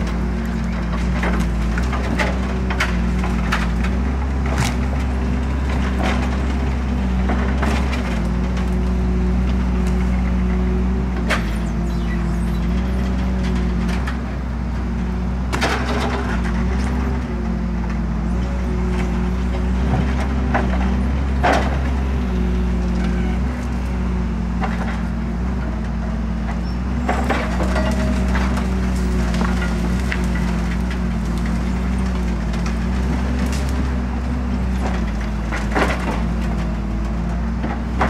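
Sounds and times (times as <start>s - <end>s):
logs knocking and cracking: 0.0s - 11.7s, 15.4s - 38.0s
diesel engine running: 0.0s - 38.0s.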